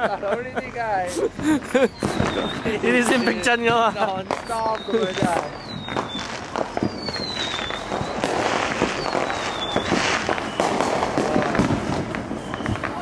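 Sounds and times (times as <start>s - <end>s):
fireworks bangs and crackling pops: 0.0s - 13.0s
falling firework whistles: 1.3s - 13.0s.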